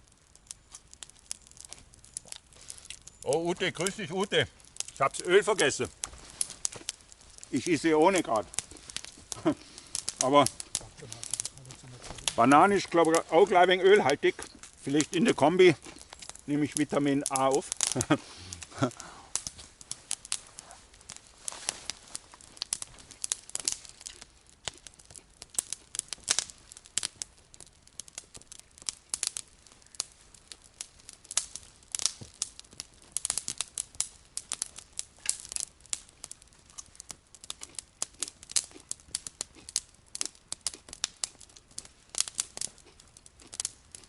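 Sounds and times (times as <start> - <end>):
campfire crackling: 0.0 - 44.0.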